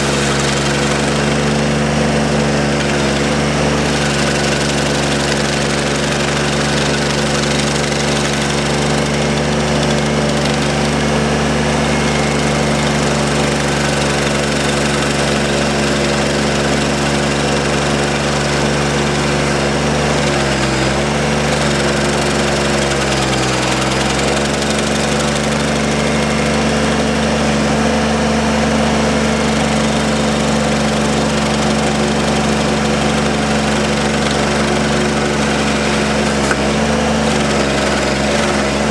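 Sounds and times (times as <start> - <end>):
engine running at high throttle: 0.0 - 38.9
stump grinder grinding: 0.0 - 38.9.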